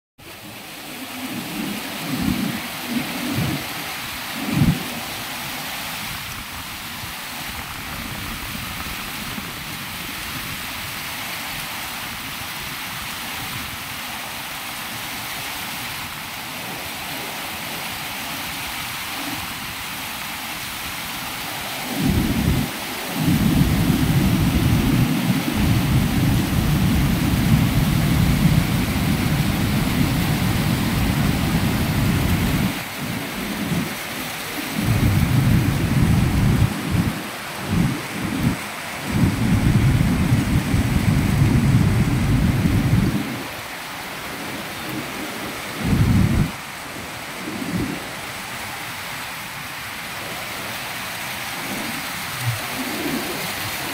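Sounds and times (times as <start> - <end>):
white water rushing: 0.2 - 53.9.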